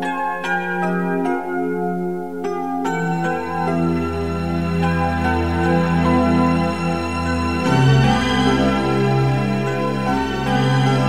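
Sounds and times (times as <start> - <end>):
keyboard chords: 0.0 - 11.0.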